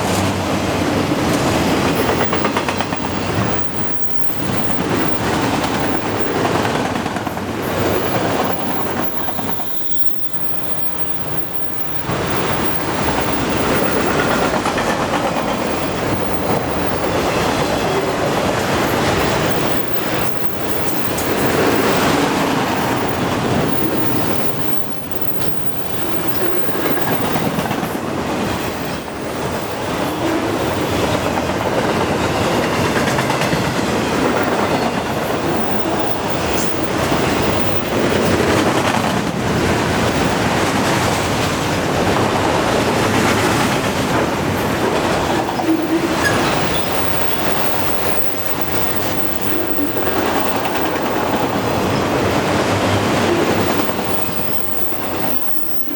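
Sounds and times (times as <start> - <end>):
freight train rumbling past: 0.0 - 55.9
wheels clicking over rail joints: 0.0 - 55.9.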